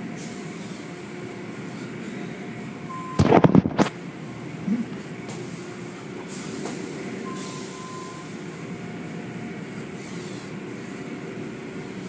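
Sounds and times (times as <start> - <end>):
car wash machinery rumble: 0.0 - 12.0.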